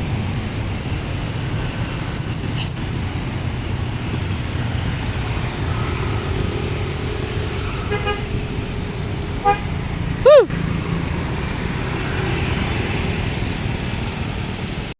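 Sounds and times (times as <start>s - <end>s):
bus engine running: 0.0s - 14.9s
road noise: 0.0s - 14.9s.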